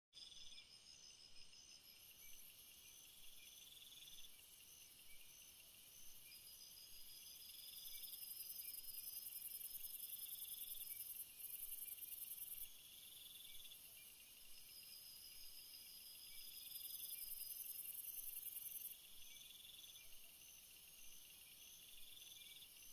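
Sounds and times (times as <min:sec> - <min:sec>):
insect trill: 0:00.2 - 0:22.9
insects chirping: 0:00.2 - 0:22.9.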